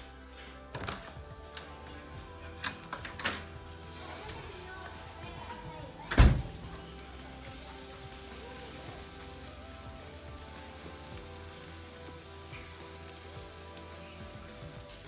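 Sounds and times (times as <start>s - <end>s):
chicken sizzling on a grill: 0.0s - 15.0s
soft background music: 0.0s - 15.0s.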